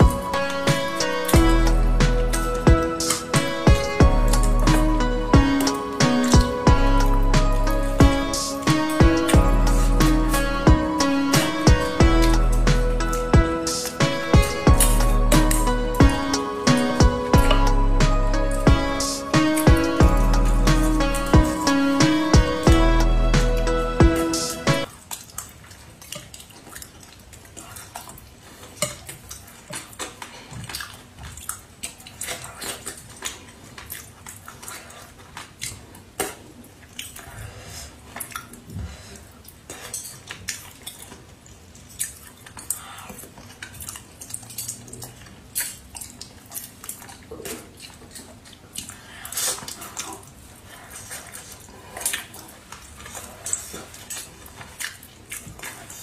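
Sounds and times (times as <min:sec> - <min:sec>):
chewing and lip smacks: 0:00.0 - 0:22.8, 0:24.8 - 0:56.0.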